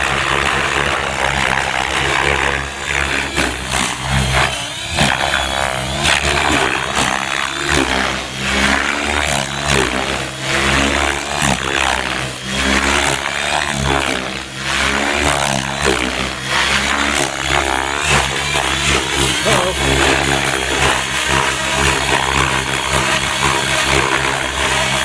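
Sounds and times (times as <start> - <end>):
electric motor whine: 0.0 - 25.0
helicopter rotor blades chopping: 0.0 - 25.0.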